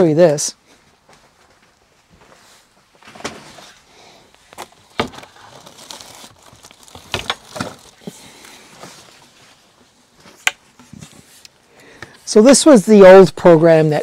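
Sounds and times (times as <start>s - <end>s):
rustling and crinkling: 0.6s - 12.3s.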